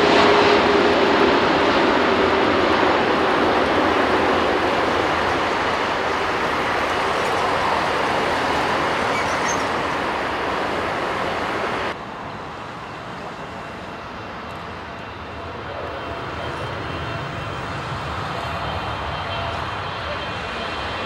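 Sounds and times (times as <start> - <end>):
jet approaching with faint whine: 0.0 - 21.0
jet engine rush on landing: 0.0 - 21.0.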